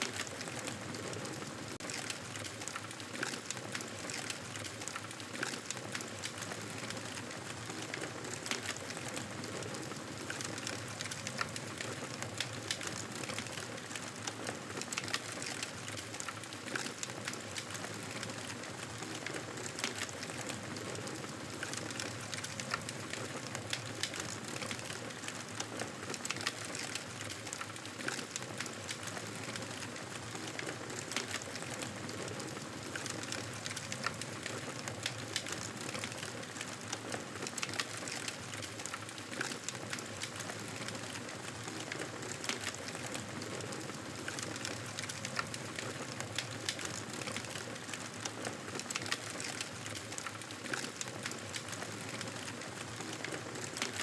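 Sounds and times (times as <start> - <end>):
campfire crackling and popping: 1.7 - 54.0.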